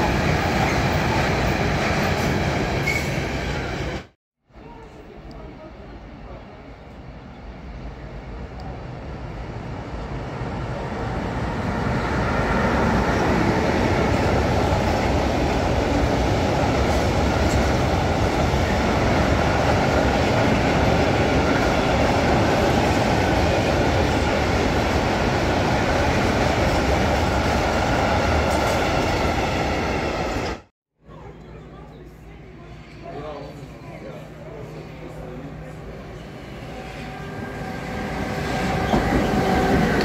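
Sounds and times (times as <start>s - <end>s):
freight train rolling past: 0.0s - 40.0s.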